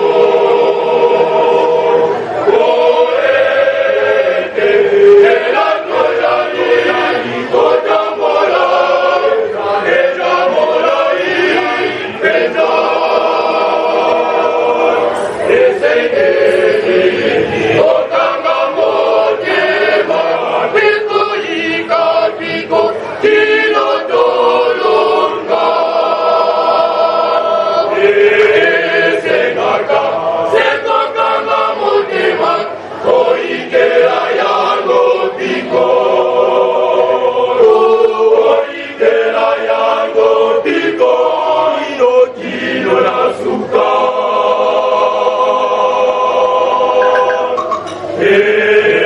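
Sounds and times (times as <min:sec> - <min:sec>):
male choir singing: 0:00.0 - 0:49.0.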